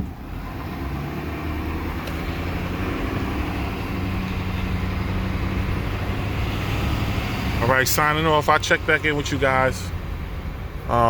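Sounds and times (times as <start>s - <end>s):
road noise: 0.0s - 11.0s
truck engine running: 0.0s - 11.0s.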